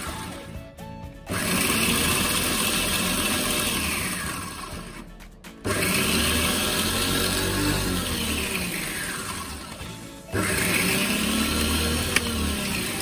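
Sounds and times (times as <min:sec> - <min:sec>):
electric food chopper whirring: 0:00.0 - 0:00.6, 0:01.2 - 0:13.0.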